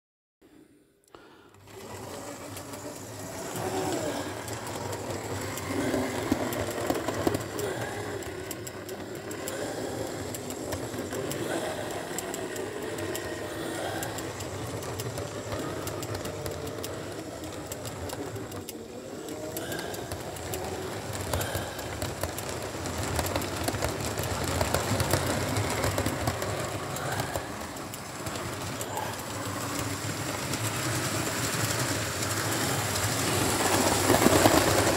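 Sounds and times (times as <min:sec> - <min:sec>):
small electric motor whirring: 0:01.6 - 0:34.9
wheels rattling on track: 0:01.6 - 0:34.9.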